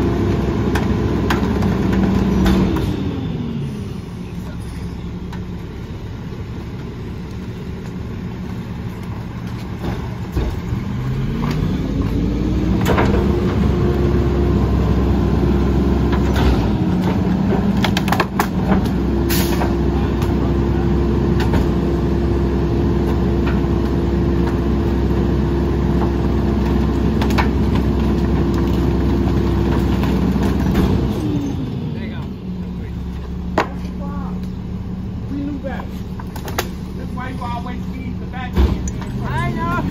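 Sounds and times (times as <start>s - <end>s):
diesel engine idling and revving: 0.0s - 39.9s
hydraulic packer compacting branches: 0.0s - 39.9s.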